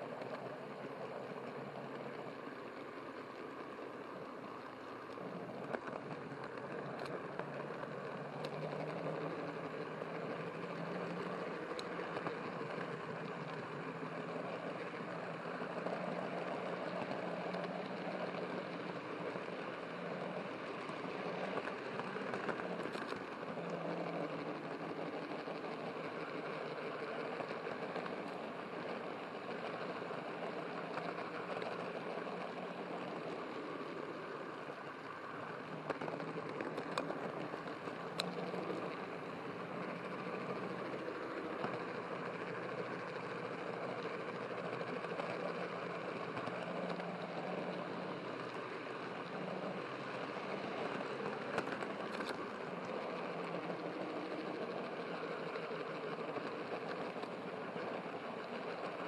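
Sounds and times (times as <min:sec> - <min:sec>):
model train rolling on track: 0:00.0 - 0:59.0.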